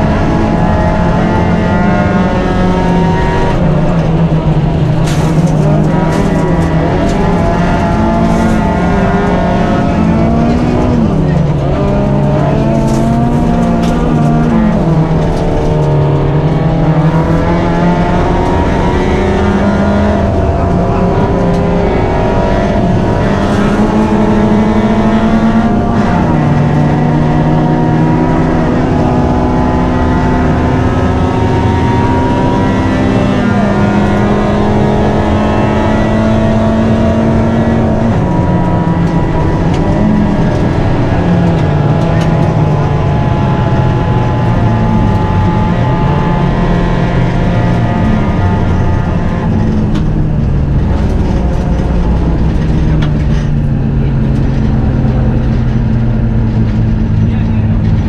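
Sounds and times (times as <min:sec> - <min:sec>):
gravel and road noise: 0:00.0 - 0:58.0
rally car engine accelerating: 0:00.0 - 0:58.0.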